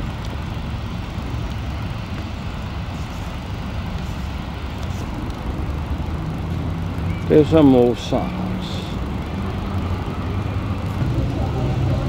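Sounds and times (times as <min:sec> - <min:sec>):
low outdoor rumble with hiss: 0:00.0 - 0:12.0.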